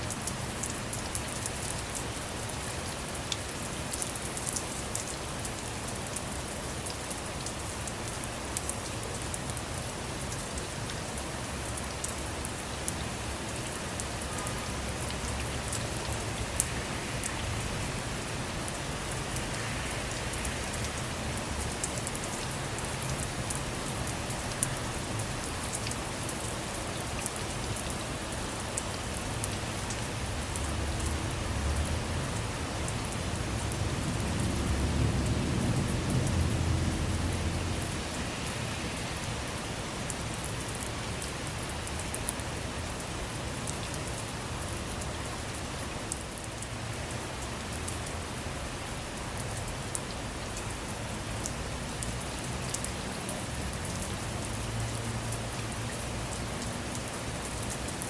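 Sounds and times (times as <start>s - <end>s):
heavy rain on hard surface: 0.0s - 58.0s.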